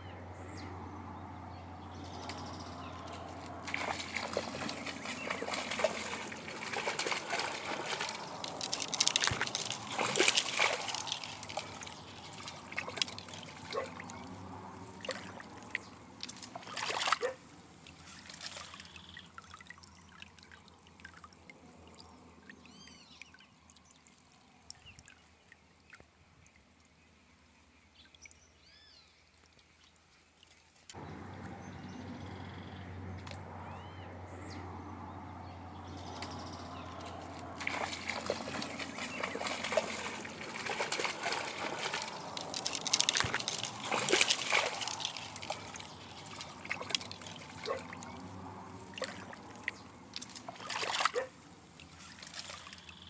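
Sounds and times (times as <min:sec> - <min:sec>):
faint water trickling: 0:00.0 - 0:53.0
water splashing and sloshing: 0:00.7 - 0:27.0, 0:29.2 - 0:53.0.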